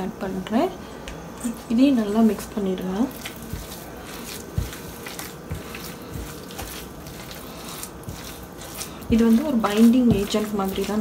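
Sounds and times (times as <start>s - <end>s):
hand squelching wet mixture: 1.5s - 11.0s.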